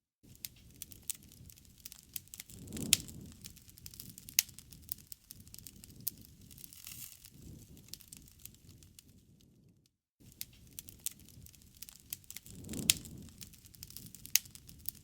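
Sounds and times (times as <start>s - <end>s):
wood fire crackling: 0.3s - 15.0s.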